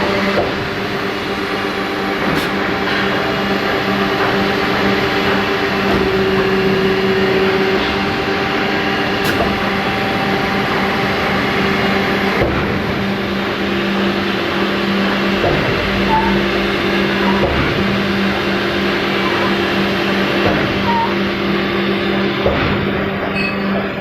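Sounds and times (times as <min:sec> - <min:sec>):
honing machine hum and hiss: 0:00.0 - 0:24.0.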